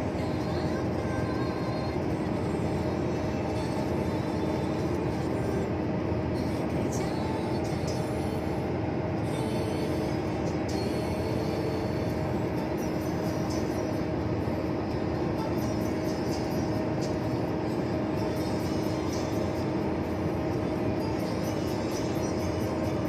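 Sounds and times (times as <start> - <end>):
truck driving on highway: 0.0 - 23.0.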